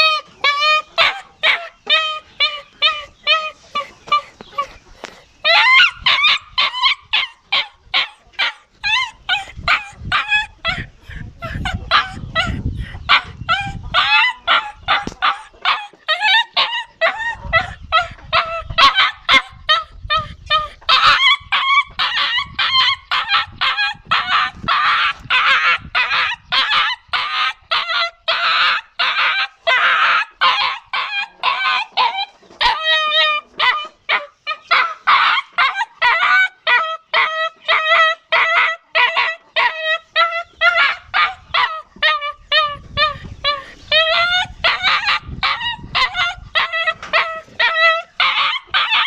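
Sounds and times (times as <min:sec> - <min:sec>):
dog whining yelps: 0:00.0 - 0:04.8, 0:05.4 - 0:10.9, 0:11.5 - 0:49.0.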